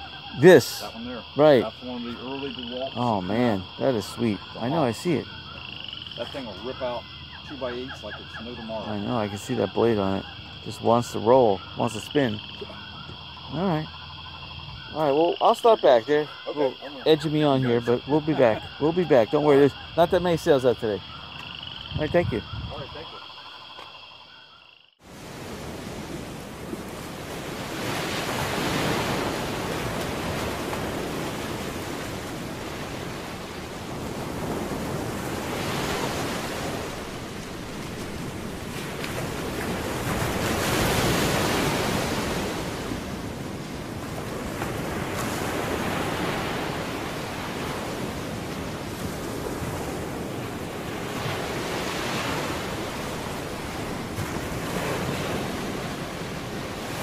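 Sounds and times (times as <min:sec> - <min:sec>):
waves washing ashore: 0:00.0 - 0:14.0, 0:14.8 - 0:23.3, 0:25.0 - 0:57.0.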